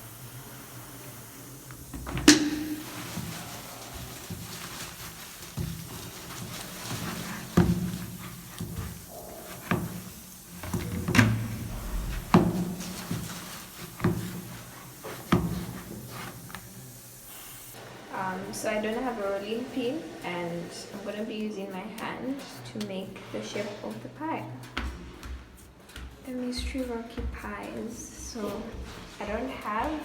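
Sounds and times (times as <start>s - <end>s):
dough being mixed by hand: 0.0s - 30.0s.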